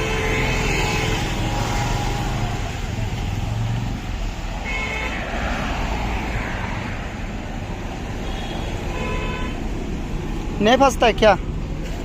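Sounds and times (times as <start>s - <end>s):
highway traffic hum: 0.0s - 12.0s.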